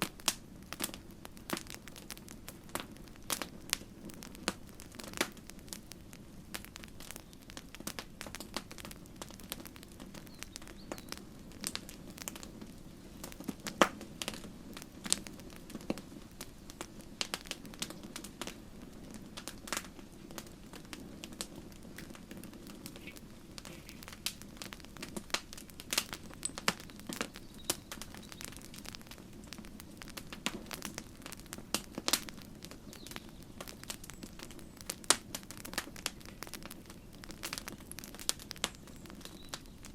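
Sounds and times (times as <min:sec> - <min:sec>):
campfire crackling and popping: 0:00.0 - 0:39.9
low rush of burning fire: 0:00.0 - 0:39.9.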